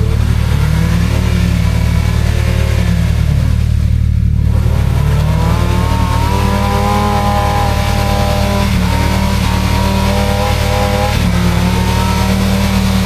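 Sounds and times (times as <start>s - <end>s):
engine revving in mud: 0.0s - 13.0s.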